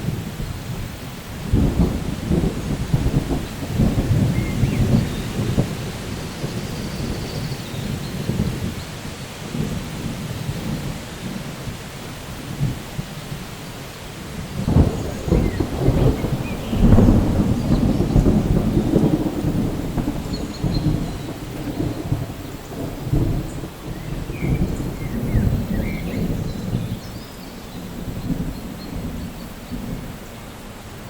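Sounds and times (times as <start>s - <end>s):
rolling thunder: 0.0s - 13.4s, 14.2s - 30.4s
steady rain: 0.0s - 31.0s.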